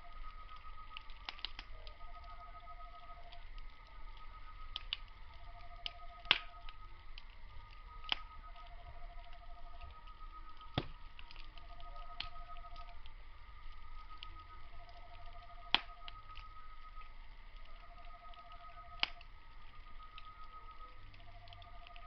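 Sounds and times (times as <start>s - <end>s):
insect pulsing trill: 0.0s - 22.0s
insects chirring: 0.0s - 22.0s
wood fire crackling: 0.0s - 22.0s.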